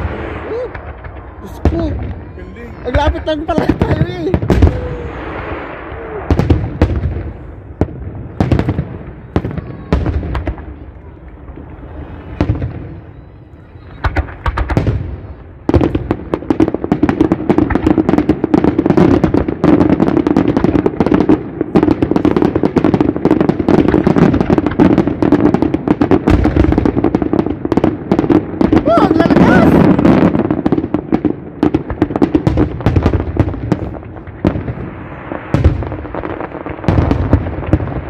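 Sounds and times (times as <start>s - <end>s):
firework shells booming: 0.0s - 38.0s
fireworks crackling and popping: 0.0s - 38.0s.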